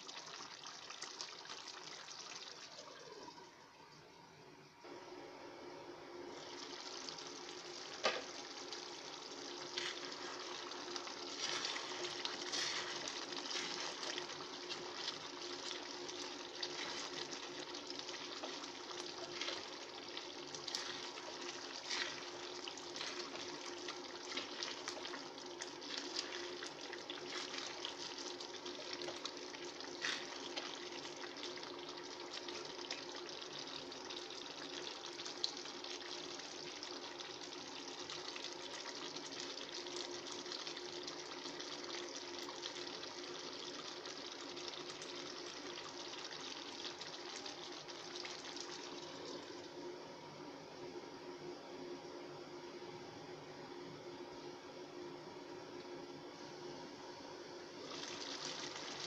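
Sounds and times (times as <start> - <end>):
curry bubbling and sizzling: 0.0 - 3.5, 6.2 - 49.8, 57.8 - 59.0.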